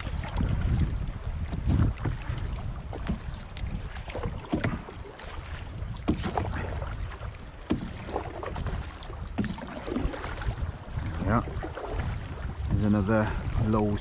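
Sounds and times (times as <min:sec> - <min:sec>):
canoe paddles pulling through water: 0:00.0 - 0:14.0
water splashes and drips: 0:00.0 - 0:14.0
wind rumble on microphone: 0:00.0 - 0:14.0.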